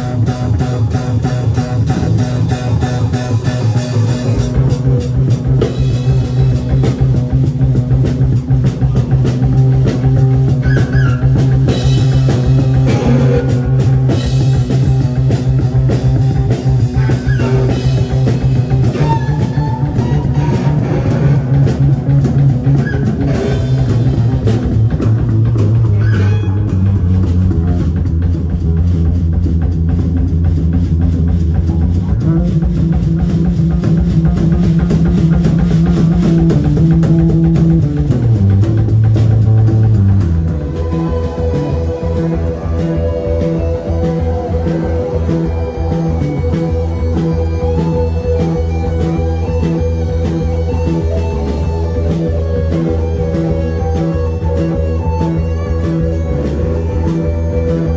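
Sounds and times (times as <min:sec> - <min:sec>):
bass line: 0:00.0 - 0:57.9
drum kit: 0:00.0 - 0:57.9
electric guitars: 0:00.0 - 0:57.9.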